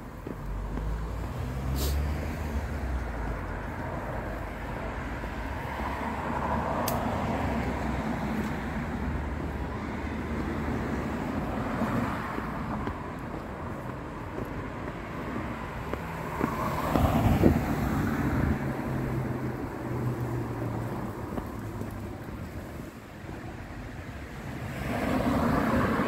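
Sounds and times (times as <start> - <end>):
road traffic: 0.0 - 26.0
vehicle passing: 0.2 - 22.9.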